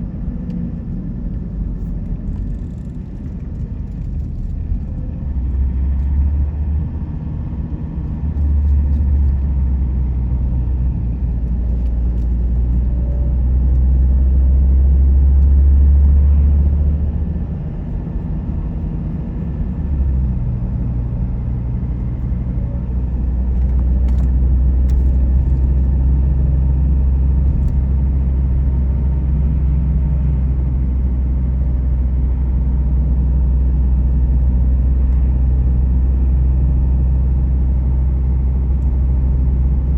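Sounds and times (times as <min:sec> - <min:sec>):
car driving along a road: 0:00.0 - 0:39.9.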